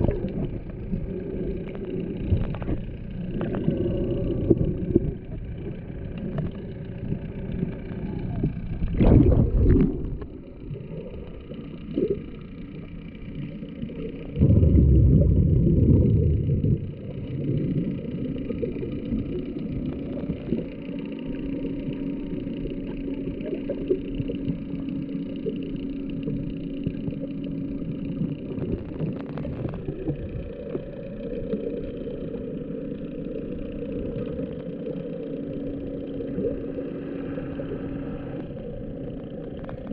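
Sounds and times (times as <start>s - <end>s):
boat engines hum underwater: 0.0s - 39.9s.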